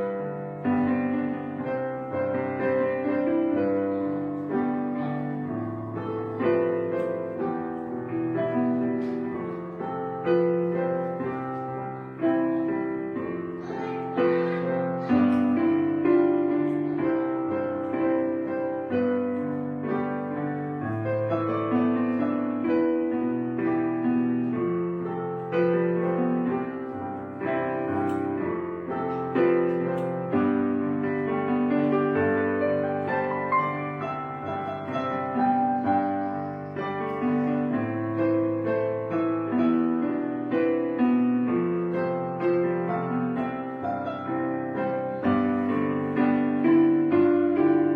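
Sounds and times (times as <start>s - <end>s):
piano notes and chords: 0.0s - 47.9s.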